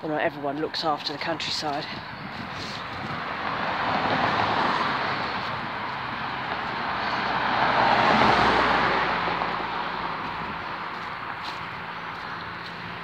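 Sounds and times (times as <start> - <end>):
cars passing with tyre noise: 0.0 - 13.0
low engine hum: 1.2 - 13.0.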